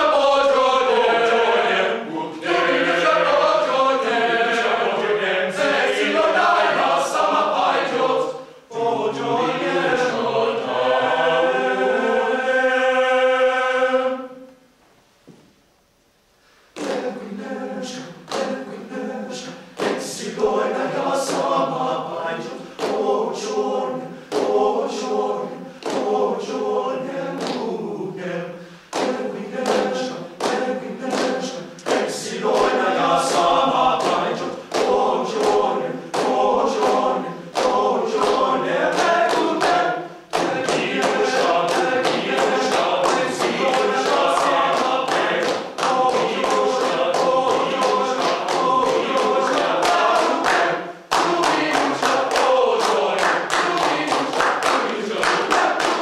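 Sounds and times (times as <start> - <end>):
men singing a cappella: 0.0 - 14.3, 16.8 - 56.0
rhythmic hand claps: 2.1 - 8.3, 16.7 - 56.0.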